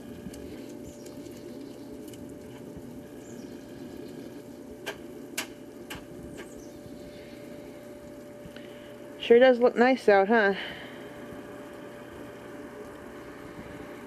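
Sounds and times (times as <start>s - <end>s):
outdoor background hum: 0.0s - 14.0s.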